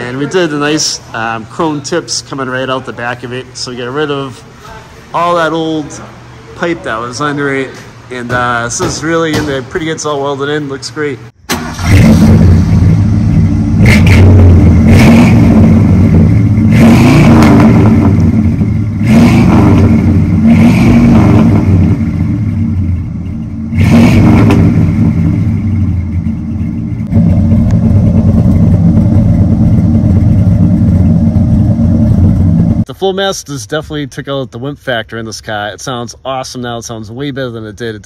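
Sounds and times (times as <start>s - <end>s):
car engine idle rumble: 0.0s - 16.7s, 17.4s - 20.5s, 21.2s - 32.9s
engine throttle blips: 0.0s - 34.0s.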